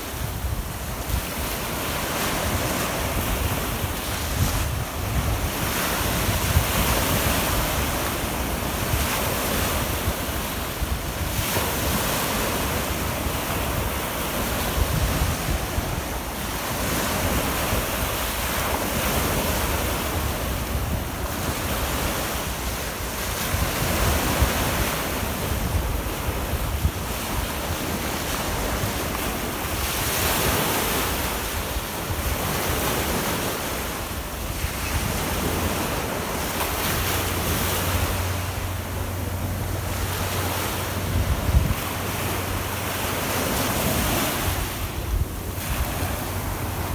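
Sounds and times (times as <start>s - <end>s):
small waves washing on shore: 0.0s - 46.9s
wind buffeting microphone: 0.0s - 46.9s.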